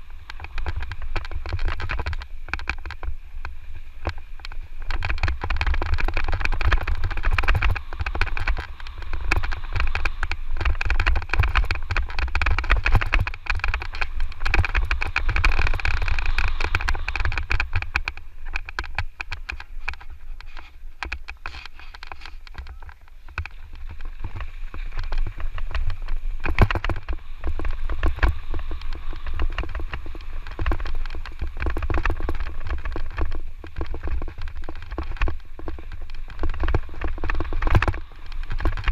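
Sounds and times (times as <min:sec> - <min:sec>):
bike rattling and knocking: 0:00.0 - 0:38.9
wind rumbling on microphone: 0:00.0 - 0:38.9.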